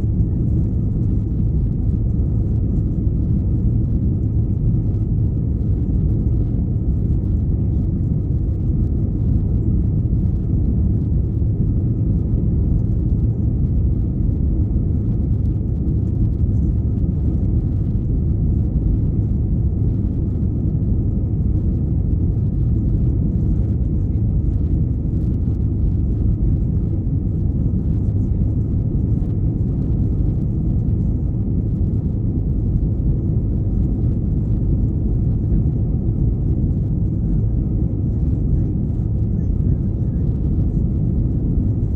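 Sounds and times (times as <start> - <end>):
airplane cabin low rumble: 0.0 - 41.9
faint steady whine: 0.0 - 41.9.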